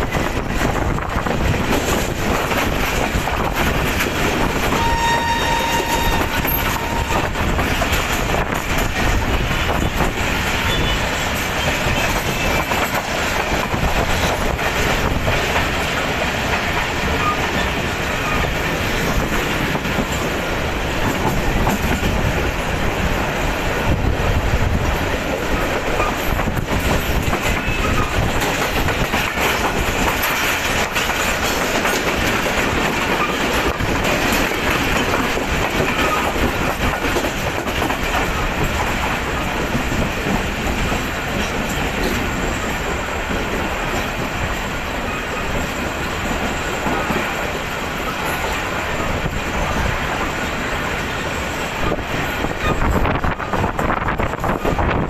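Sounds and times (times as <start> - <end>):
clickety-clack of rail joints: 0.0 - 55.0
wheels rumbling on rails: 0.0 - 55.0.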